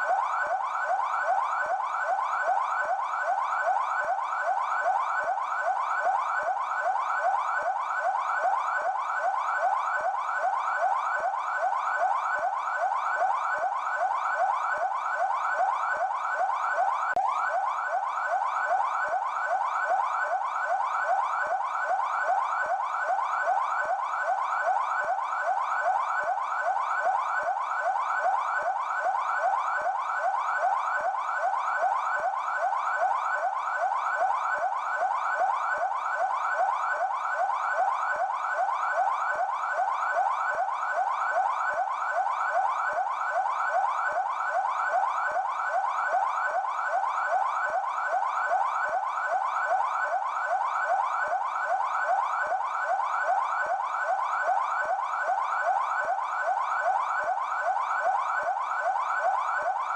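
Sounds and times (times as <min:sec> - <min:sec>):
police siren yelping: 0:00.0 - 0:59.9.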